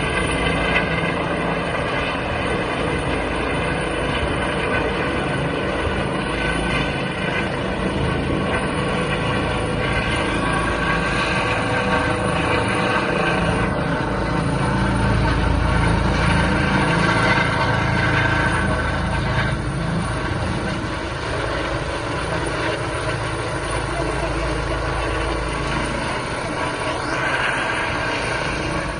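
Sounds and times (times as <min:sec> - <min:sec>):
helicopter rotor and engine: 0:00.0 - 0:28.9.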